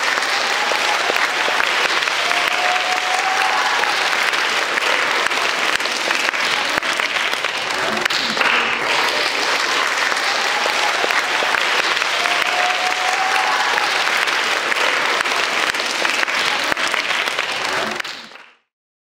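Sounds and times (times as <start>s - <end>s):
voices: 0.0s - 18.1s
audience applauding: 0.0s - 18.7s.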